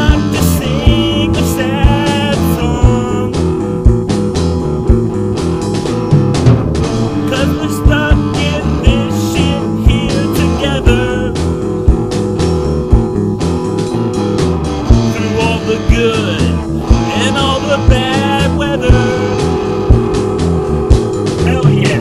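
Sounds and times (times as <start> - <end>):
lead guitar bent notes: 0.0 - 22.0
rock band playing: 0.0 - 22.0.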